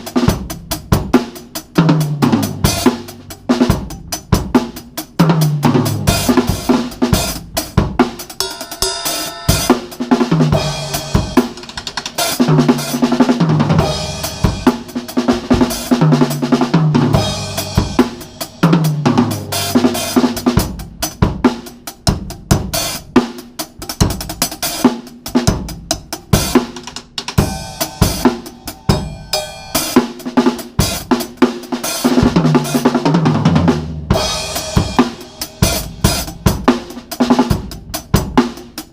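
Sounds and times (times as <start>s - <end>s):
acoustic drum kit playing: 0.0s - 38.9s.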